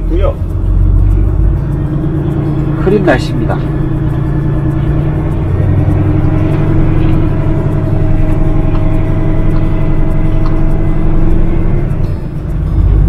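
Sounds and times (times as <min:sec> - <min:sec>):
diesel truck engine droning: 0:00.0 - 0:13.0.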